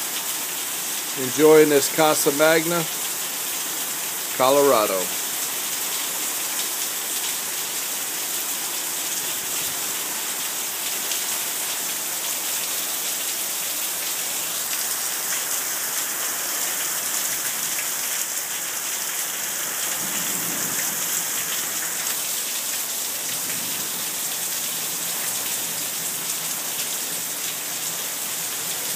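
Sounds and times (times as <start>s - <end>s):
heavy rain hissing: 0.7s - 10.8s, 11.4s - 28.9s.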